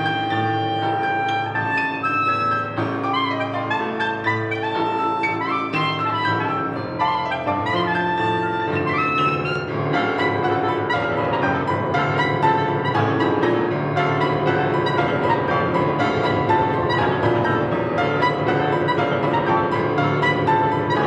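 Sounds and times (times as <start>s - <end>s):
clarinet: 0.0s - 21.0s
piano: 0.0s - 21.0s.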